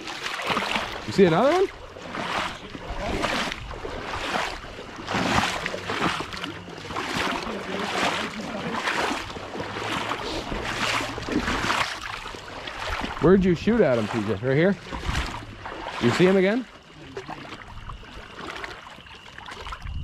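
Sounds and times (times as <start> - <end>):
water sloshing: 0.0 - 20.0.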